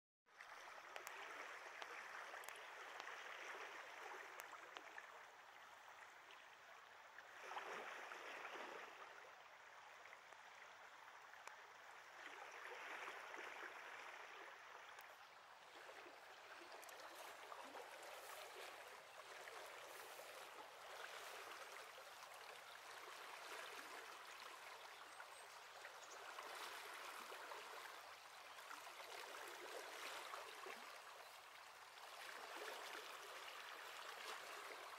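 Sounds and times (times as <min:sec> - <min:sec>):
stream water washing over riffles: 0:00.3 - 0:34.9.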